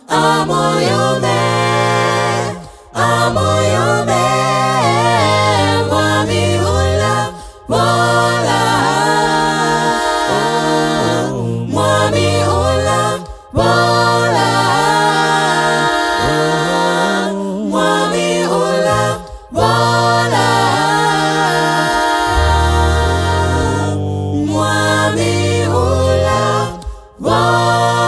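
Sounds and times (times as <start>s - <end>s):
choir singing in harmony: 0.0s - 28.0s.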